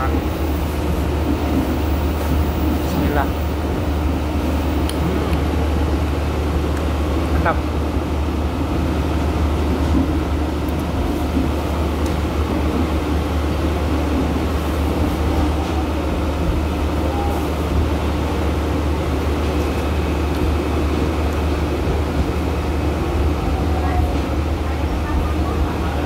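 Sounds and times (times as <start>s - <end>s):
hiss of moving train: 0.0s - 26.0s
train running low rumble: 0.0s - 26.0s.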